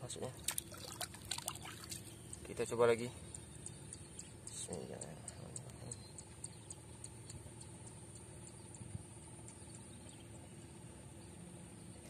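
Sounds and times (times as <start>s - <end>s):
insect chirping: 0.0s - 12.0s
steady high buzz: 0.0s - 12.0s.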